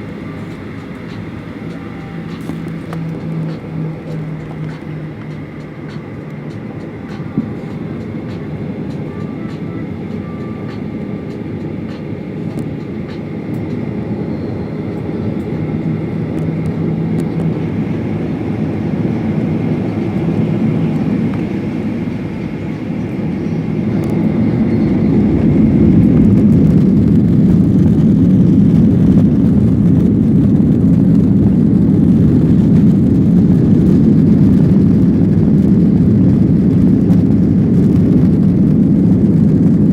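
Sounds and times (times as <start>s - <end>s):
jet airliner engines rumbling: 0.0s - 39.9s.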